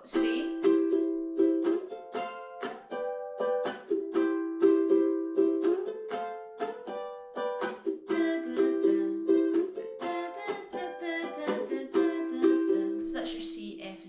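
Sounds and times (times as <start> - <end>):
ukulele strumming chords: 0.0 - 13.9.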